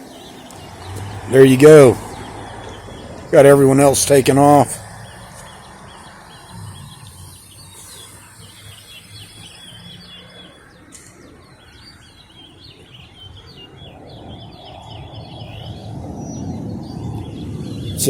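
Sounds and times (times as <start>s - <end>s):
vehicle approaching: 0.0s - 11.1s, 13.4s - 18.0s
small birds twittering: 0.0s - 18.0s.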